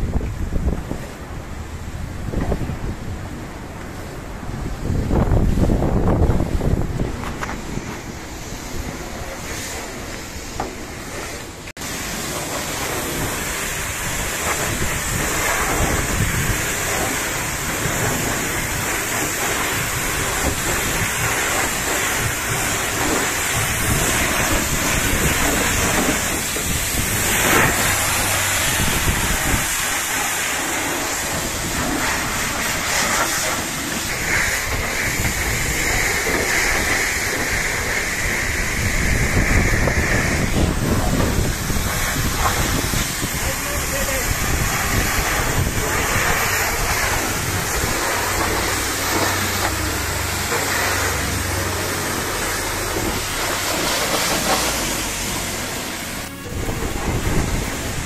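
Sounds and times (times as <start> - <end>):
pressure washer spraying metal: 4.9 - 58.0.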